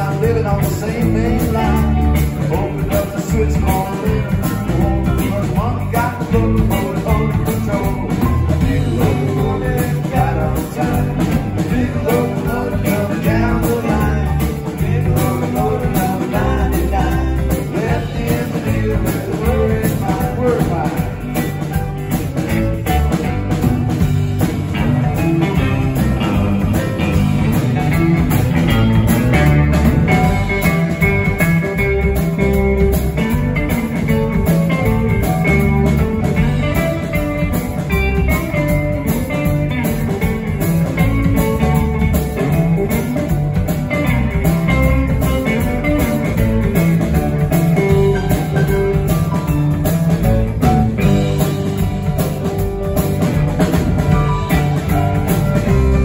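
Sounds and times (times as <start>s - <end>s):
bass guitar: 0.0s - 56.0s
drum kit: 0.0s - 56.0s
electric guitar: 0.0s - 56.0s
keyboard: 0.0s - 56.0s.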